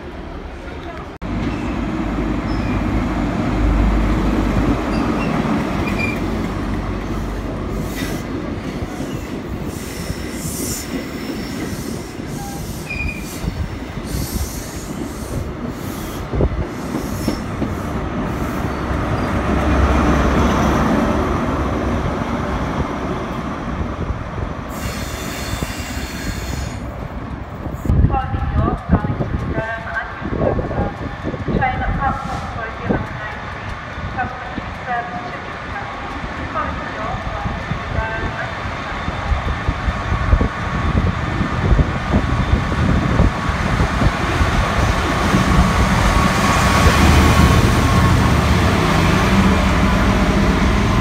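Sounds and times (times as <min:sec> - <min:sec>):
train wheels on rails: 0:00.0 - 0:51.0.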